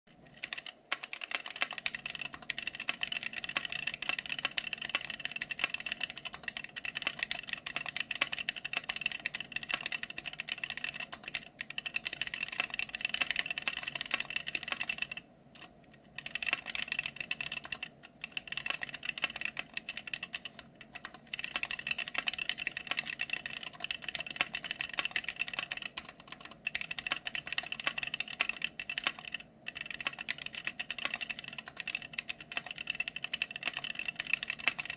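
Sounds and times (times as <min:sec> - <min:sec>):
mechanical keyboard typing: 0:00.1 - 0:34.9.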